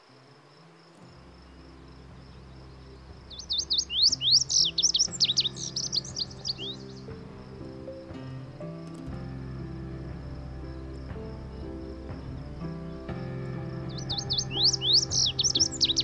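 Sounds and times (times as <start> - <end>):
high insect drone: 0.0 - 16.0
soft background music: 0.0 - 16.0
songbird singing: 0.0 - 16.0.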